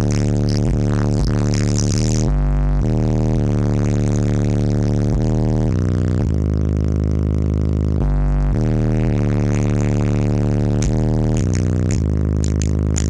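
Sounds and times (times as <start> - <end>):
bass-heavy music from car audio: 0.0 - 13.0.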